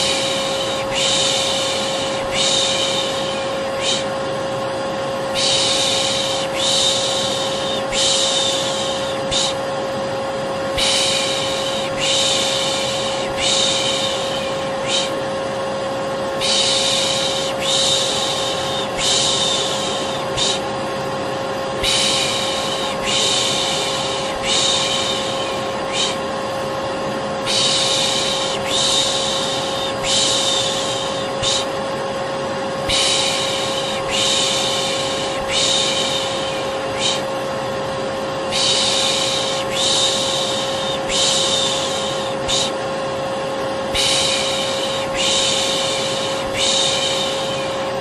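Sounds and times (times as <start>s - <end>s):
person shushing: 0.0s - 4.2s, 5.4s - 9.6s, 10.8s - 15.2s, 16.4s - 20.7s, 21.7s - 26.4s, 27.4s - 31.8s, 32.8s - 37.4s, 38.5s - 42.8s, 43.9s - 47.9s
vacuum cleaner humming: 0.0s - 48.0s.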